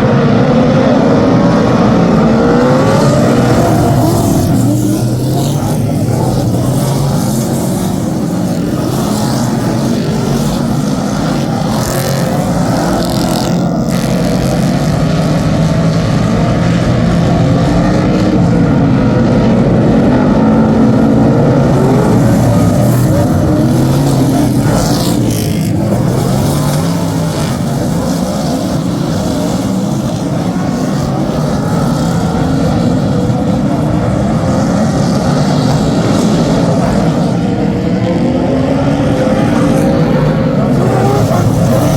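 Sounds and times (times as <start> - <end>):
race car engines running hard: 0.0 - 41.9.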